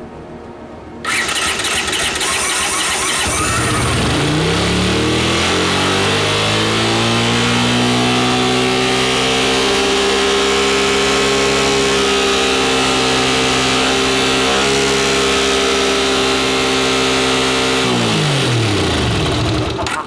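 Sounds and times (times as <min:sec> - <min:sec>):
motorcycle engine running: 0:01.1 - 0:20.0.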